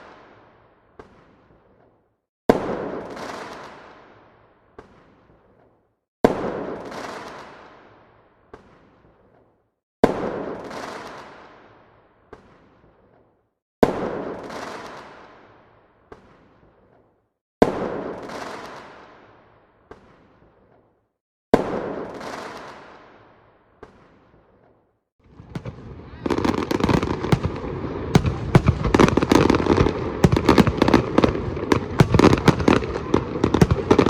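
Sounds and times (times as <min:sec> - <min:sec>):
small firework pops: 0:01.0 - 0:04.0, 0:04.8 - 0:34.0
fireworks bangs: 0:04.7 - 0:20.9, 0:21.5 - 0:34.0.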